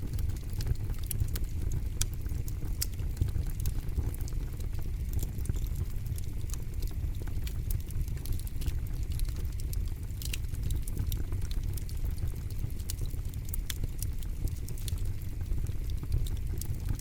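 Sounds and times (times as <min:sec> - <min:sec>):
fire low rumble: 0:00.0 - 0:17.0.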